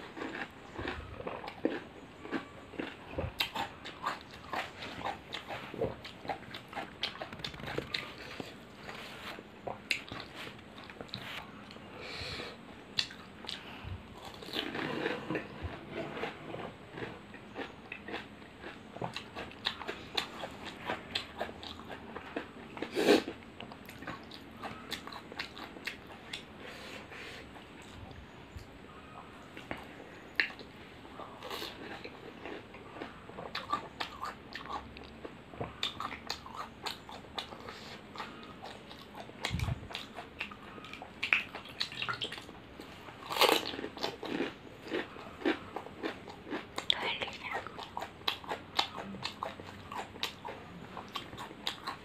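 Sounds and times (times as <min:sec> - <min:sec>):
crunching and chewing food: 0:00.0 - 0:52.0.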